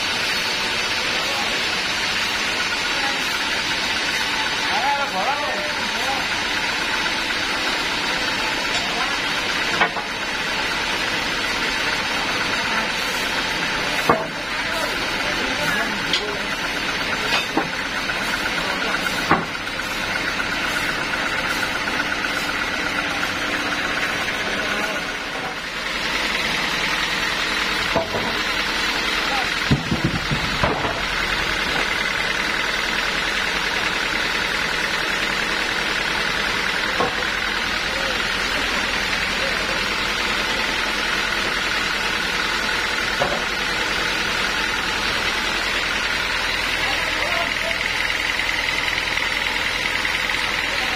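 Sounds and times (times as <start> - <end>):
band sawmill cutting wood: 0.0 - 50.9.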